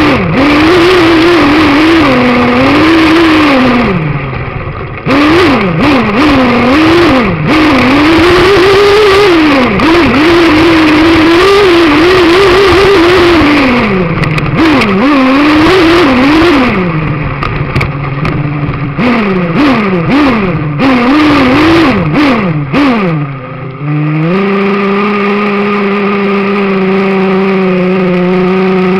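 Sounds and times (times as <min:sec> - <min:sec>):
small nitro engine revving: 0:00.0 - 0:28.9.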